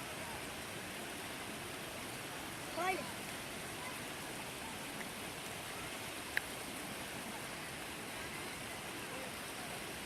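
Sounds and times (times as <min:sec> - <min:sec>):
steady hiss of water: 0:00.0 - 0:10.0.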